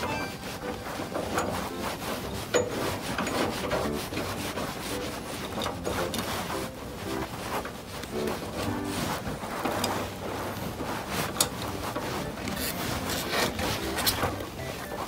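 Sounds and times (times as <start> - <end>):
metal stem rubbing and scraping: 0.0 - 15.0.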